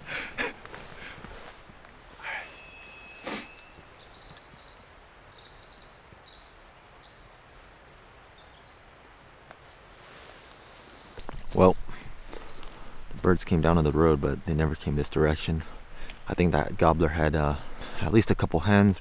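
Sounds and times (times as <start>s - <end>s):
small birds trilling: 2.2s - 10.2s, 11.1s - 18.3s.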